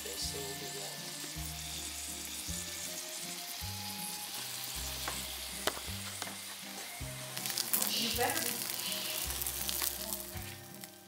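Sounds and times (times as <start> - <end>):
fish sizzling in a frying pan: 0.0 - 11.0.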